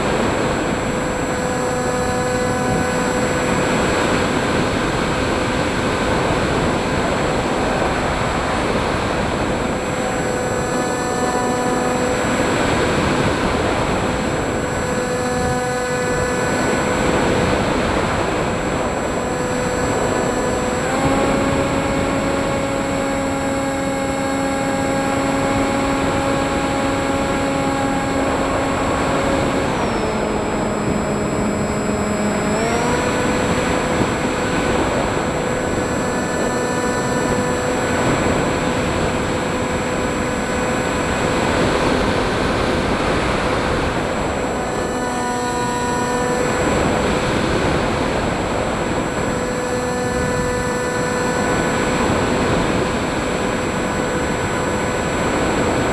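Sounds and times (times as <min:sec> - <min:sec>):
drone propellers buzzing: 0:00.0 - 0:55.9.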